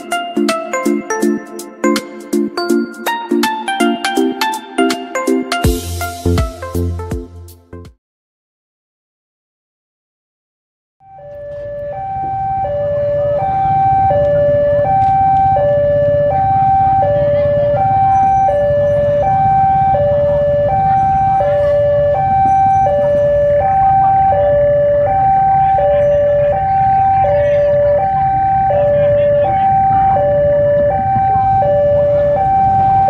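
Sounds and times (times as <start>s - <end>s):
level crossing two-tone alarm: 0.0s - 6.6s, 11.0s - 33.0s.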